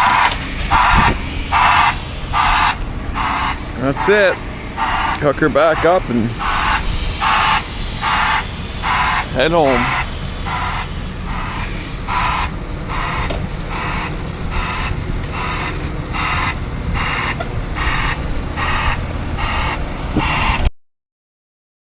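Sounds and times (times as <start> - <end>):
heavy engine rumbling: 0.0 - 20.7
reversing alarm beeping: 0.0 - 20.7.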